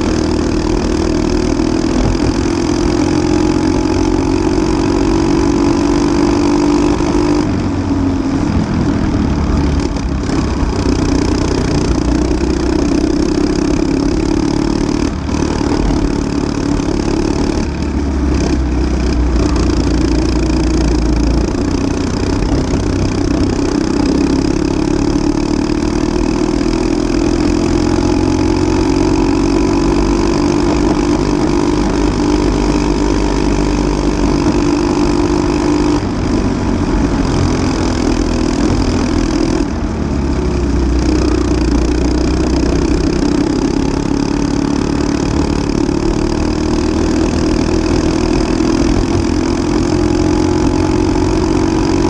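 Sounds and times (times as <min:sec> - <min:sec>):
kart engine revving: 0:00.0 - 0:52.0.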